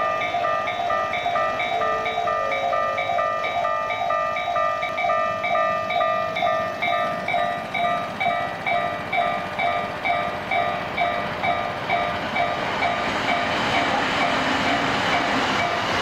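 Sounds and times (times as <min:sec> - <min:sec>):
level crossing bell ringing: 0:00.0 - 0:15.8.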